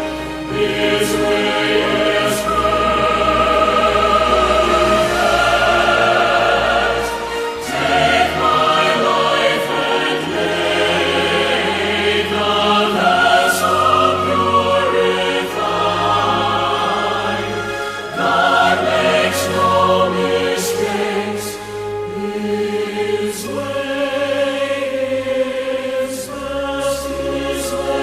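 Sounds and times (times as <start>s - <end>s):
choir singing held chords: 0.0s - 28.0s.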